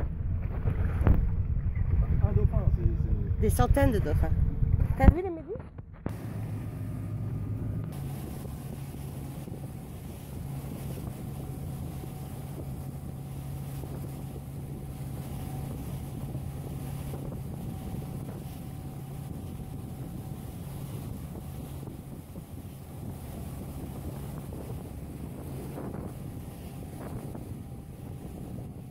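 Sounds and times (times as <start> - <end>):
motorboat engine humming: 0.0 - 28.9
water rushing along hull: 0.0 - 28.9
wind on microphone: 0.0 - 28.9.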